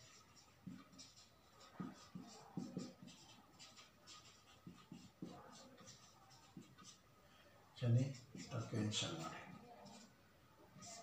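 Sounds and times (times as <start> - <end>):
marker pen scratching on whiteboard: 0.0 - 7.1, 7.8 - 11.0.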